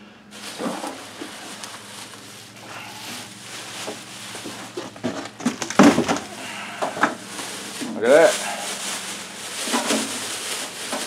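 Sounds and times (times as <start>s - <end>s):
bubble wrap rustling: 0.3s - 11.0s.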